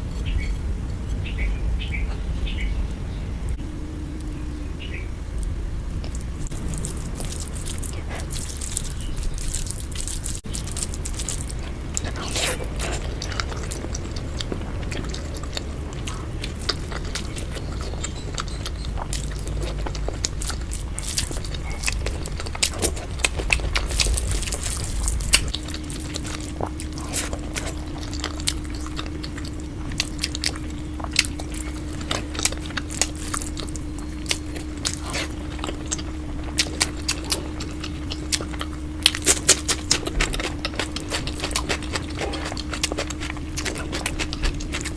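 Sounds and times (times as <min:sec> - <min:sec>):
steady low hum: 0:00.0 - 0:44.9
crunchy chewing: 0:03.5 - 0:44.9.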